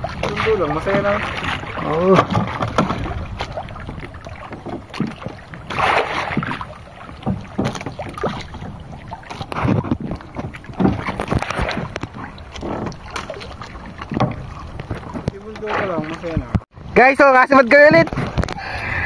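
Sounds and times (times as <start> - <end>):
wind on microphone: 0.0 - 17.0
waves slapping against boat: 0.0 - 19.0.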